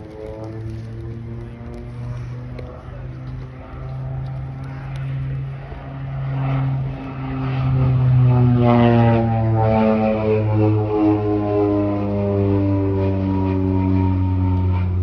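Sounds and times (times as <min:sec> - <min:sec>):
propeller aircraft drone: 0:00.0 - 0:15.0.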